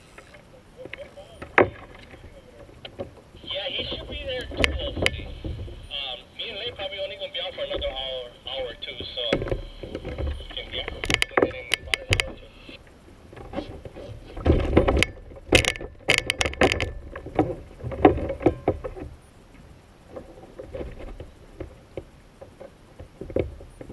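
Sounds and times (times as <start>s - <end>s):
knocks and clatter on plastic kayak: 0.0s - 6.0s, 6.6s - 8.2s, 9.1s - 12.5s, 13.2s - 23.9s
water washing against hull: 0.0s - 23.9s.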